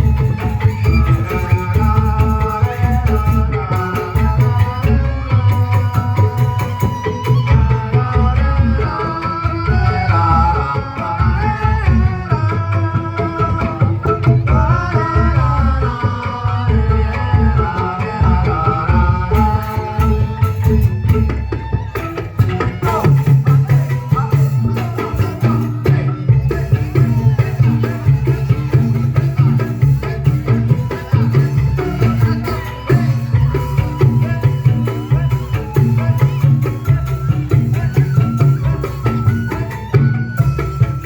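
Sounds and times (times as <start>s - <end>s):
hand-drum beat: 0.0s - 41.0s.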